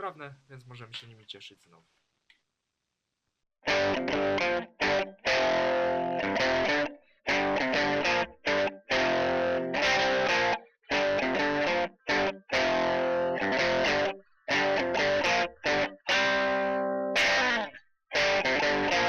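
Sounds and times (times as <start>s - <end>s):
distorted electric guitar chords: 3.7s - 19.0s.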